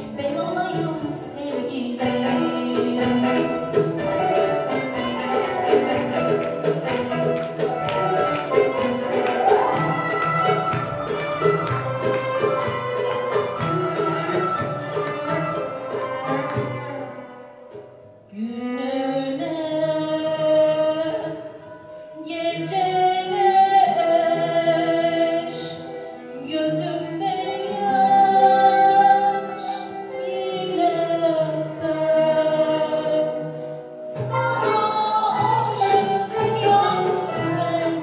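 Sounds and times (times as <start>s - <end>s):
ud and kanun accompaniment: 0.0s - 38.0s.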